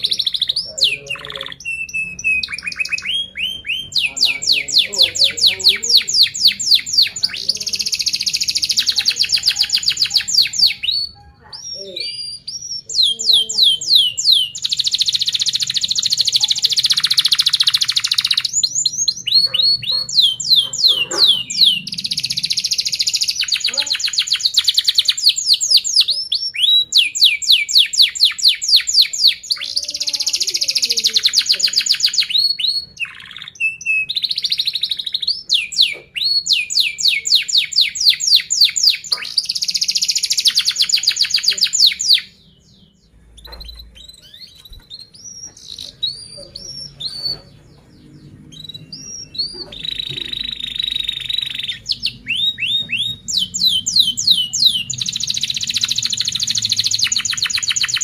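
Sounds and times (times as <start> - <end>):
canary singing chirps and trills: 0.0 - 58.0.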